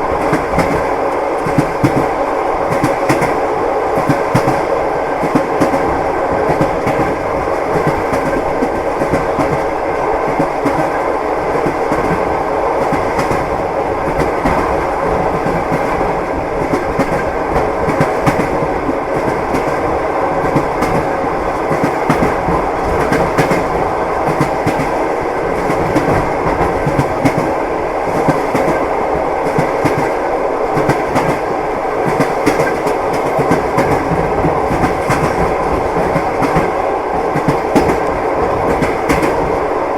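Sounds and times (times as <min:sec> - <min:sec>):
train wheels clickety-clack: 0:00.0 - 0:39.8
train rolling rumble: 0:00.0 - 0:39.9.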